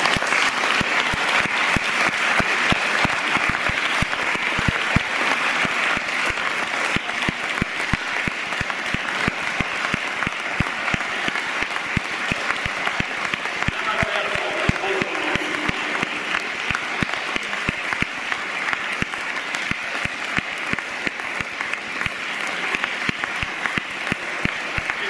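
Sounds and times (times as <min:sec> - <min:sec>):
audience applauding: 0:00.0 - 0:25.0
sharp claps close by: 0:00.0 - 0:25.0.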